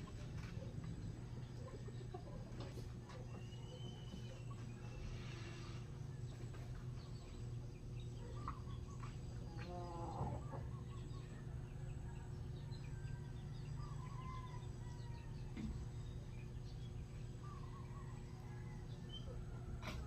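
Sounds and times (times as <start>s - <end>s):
chickens clucking: 0.0s - 20.0s
steady low hum: 0.0s - 20.0s
faint chirps: 0.1s - 20.0s.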